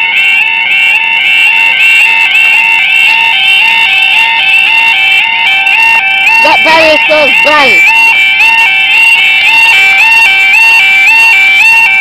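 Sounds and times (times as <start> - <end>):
level crossing warbling alarm: 0.0 - 12.0.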